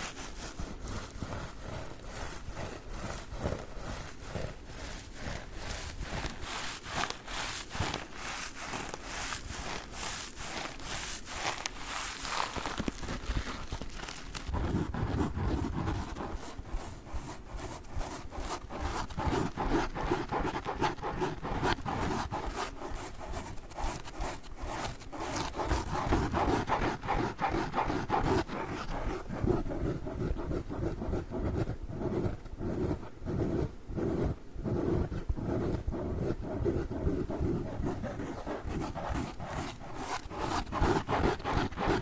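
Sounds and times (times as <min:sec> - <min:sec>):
sponges rubbed and squeezed: 0:00.0 - 0:42.0.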